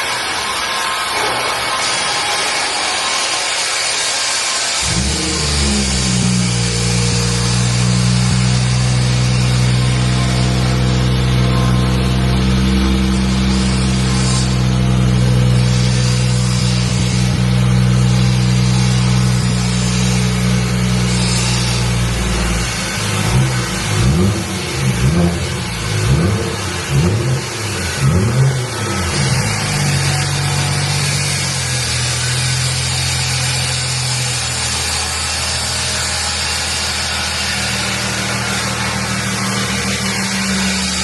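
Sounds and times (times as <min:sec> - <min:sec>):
car engine idling and revving: 0:04.8 - 0:41.0.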